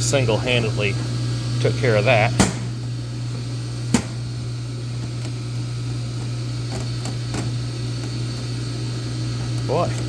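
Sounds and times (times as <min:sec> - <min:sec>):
low hum of shop equipment: 0:00.0 - 0:10.0.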